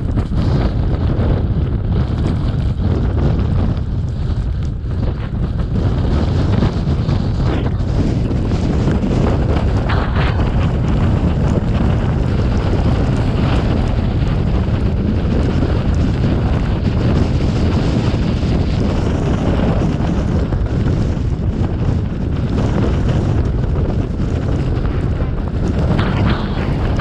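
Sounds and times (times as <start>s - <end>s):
vehicle rumbling: 0.0s - 27.0s
wind on microphone: 0.0s - 27.0s.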